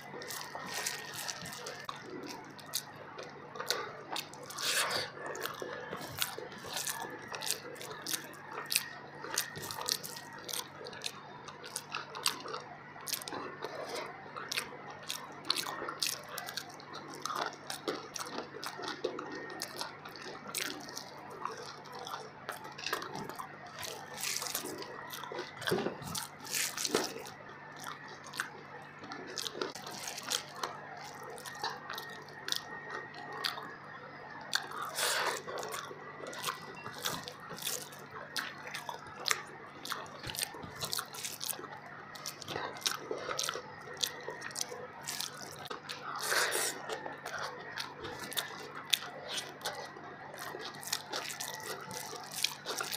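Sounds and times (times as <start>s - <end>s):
hand squishing rice: 0.0s - 3.0s, 3.6s - 28.6s, 29.2s - 52.9s
person chewing food: 0.0s - 52.9s.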